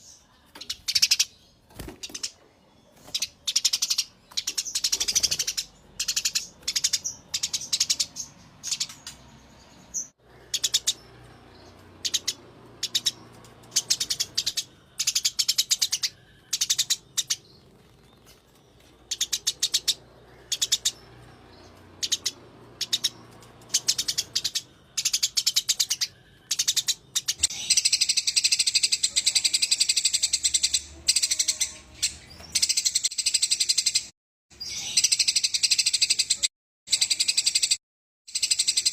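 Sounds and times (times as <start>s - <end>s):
sparrow rattling chirps: 0.6s - 2.4s, 3.0s - 9.3s, 9.9s - 38.9s.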